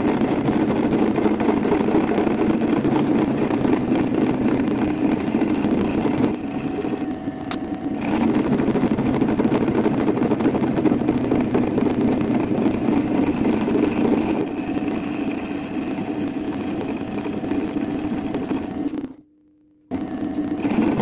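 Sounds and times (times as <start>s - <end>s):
metal lathe drone: 0.0s - 19.1s, 19.9s - 21.0s.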